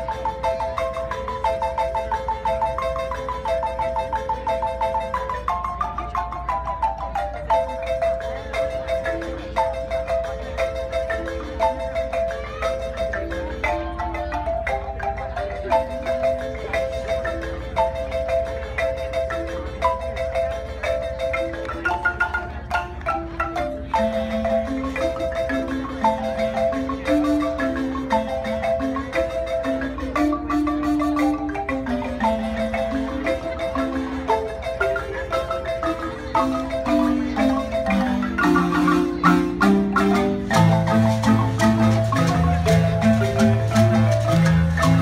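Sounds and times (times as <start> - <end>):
marimba ensemble playing: 0.0 - 45.0.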